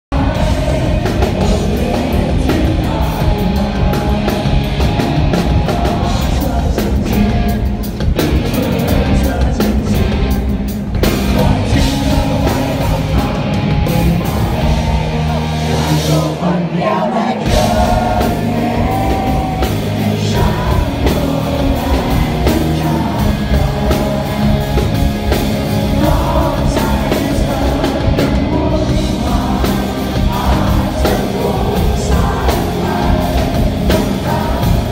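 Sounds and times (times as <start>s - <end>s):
live rock band playing: 0.1s - 34.9s
man singing lead vocals: 0.1s - 34.9s.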